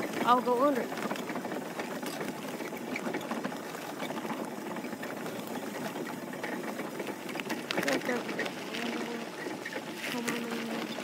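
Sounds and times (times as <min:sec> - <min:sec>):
small vehicle rattling over pavement: 0:00.0 - 0:11.0.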